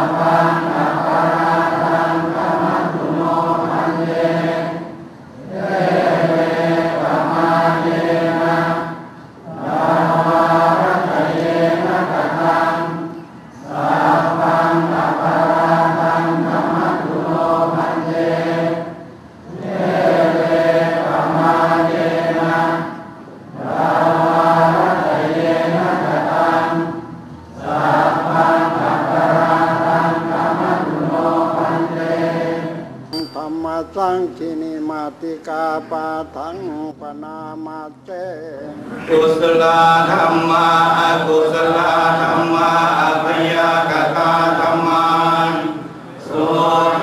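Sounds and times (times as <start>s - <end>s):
monks chanting in unison: 0.0s - 27.0s, 27.6s - 33.0s, 33.9s - 47.0s.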